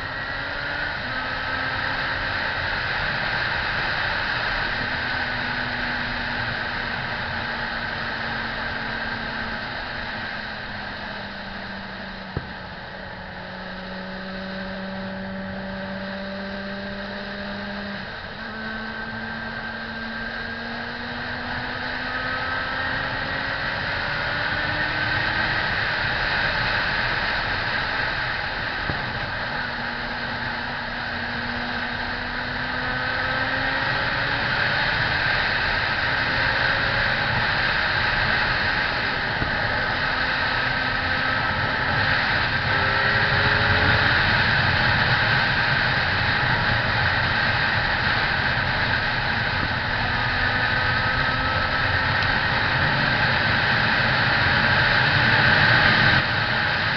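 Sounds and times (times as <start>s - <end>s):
motorcycle engine running: 0.0s - 56.9s
steady rushing noise: 0.0s - 56.9s.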